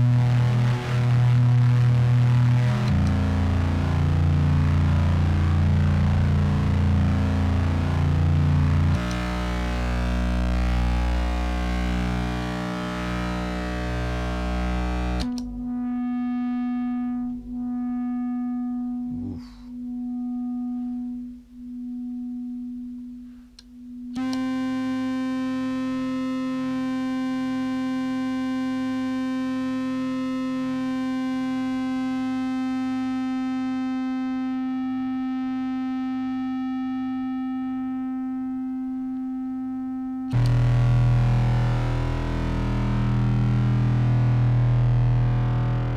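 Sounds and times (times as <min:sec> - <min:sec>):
distorted clarinet drone: 0:00.0 - 0:34.9, 0:35.6 - 0:45.9.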